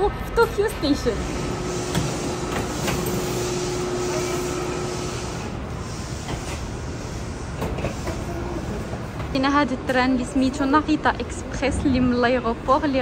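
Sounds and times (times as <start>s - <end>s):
steady hum: 0.6s - 13.0s.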